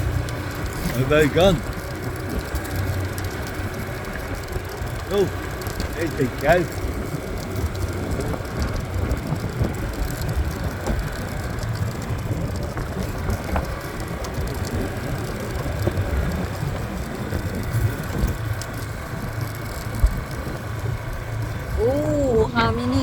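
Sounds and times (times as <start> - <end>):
motorbike engine rumbling: 0.0 - 23.0.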